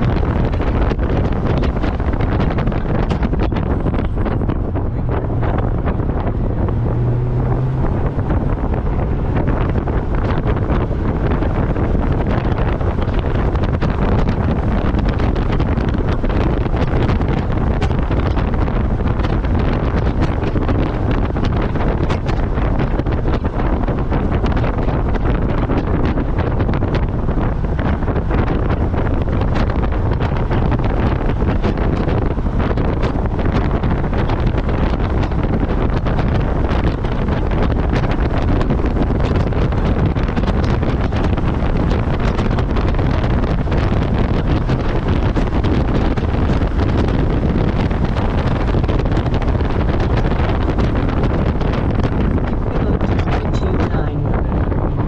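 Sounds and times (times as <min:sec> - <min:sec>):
car engine: 0:00.0 - 0:55.0
road noise: 0:00.0 - 0:55.0
wind buffeting microphone: 0:00.0 - 0:55.0.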